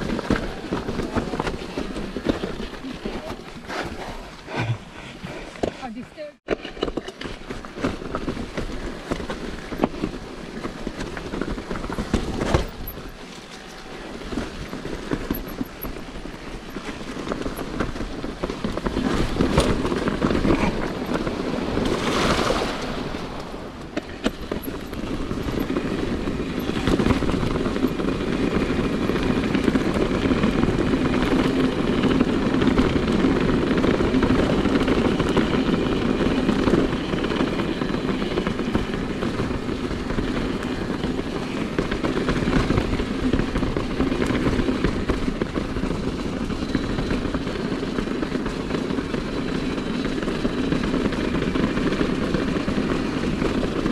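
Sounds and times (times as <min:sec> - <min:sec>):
bike knocks and rattles: 0:00.0 - 0:03.6, 0:06.5 - 0:53.9
tyres and wind rumbling: 0:00.0 - 0:53.9.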